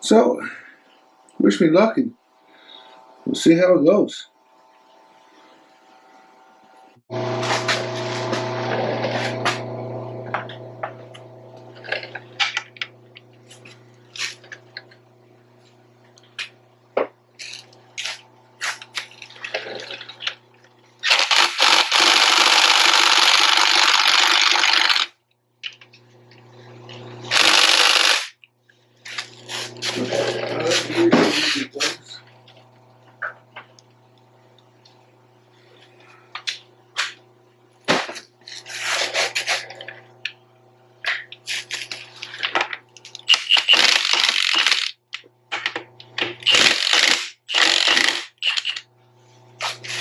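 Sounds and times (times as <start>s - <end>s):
steady mechanical hum: 0.0s - 50.0s.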